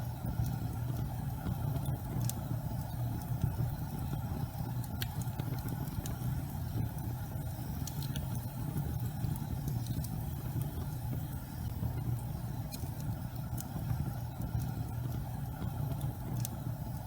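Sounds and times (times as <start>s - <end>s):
gas fireplace flame rumble: 0.0s - 17.0s
faint crackling clicks: 0.1s - 17.0s.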